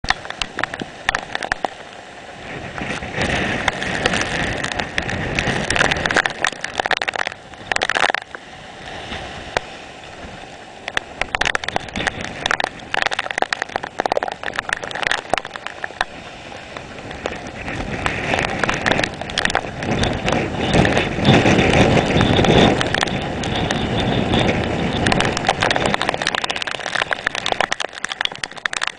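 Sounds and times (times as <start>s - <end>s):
rain crackling: 0.0s - 28.9s
strong wind buffeting microphone: 0.0s - 28.9s.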